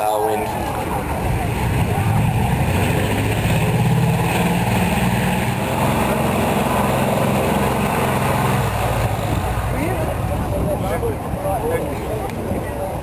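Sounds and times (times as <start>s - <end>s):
propeller aircraft engines: 0.0s - 13.0s.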